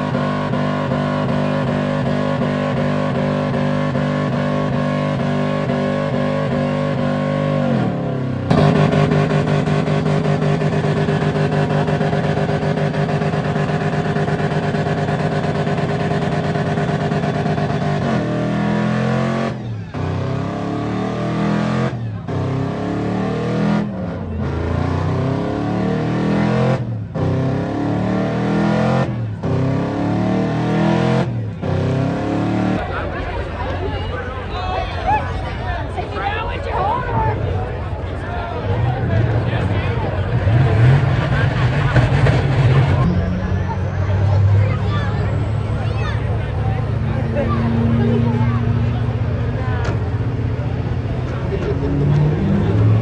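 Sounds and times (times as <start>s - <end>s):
engine revving: 0.0s - 33.8s, 37.9s - 53.0s.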